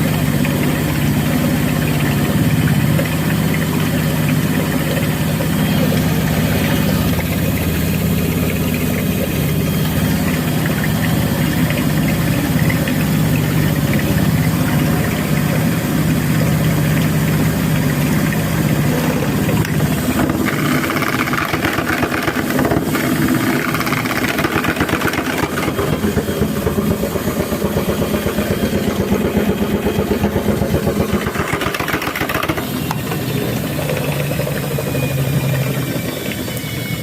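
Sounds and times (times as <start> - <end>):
washing machine drum pulsing: 0.0 - 37.0
washing machine motor hum: 0.0 - 37.0.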